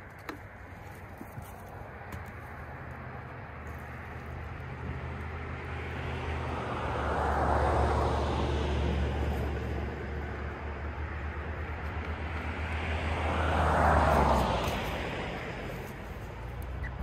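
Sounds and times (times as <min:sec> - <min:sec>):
vehicle passing by: 0:02.0 - 0:17.0.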